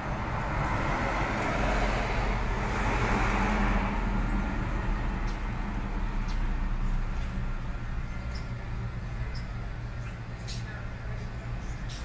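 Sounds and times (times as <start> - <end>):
vehicle passing: 0.0 - 9.8.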